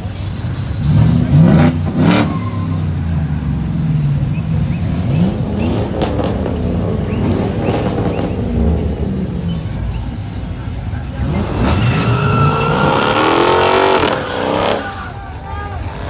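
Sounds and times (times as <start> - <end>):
vehicle engines idling: 0.0 - 16.0
engine revs: 0.7 - 15.2.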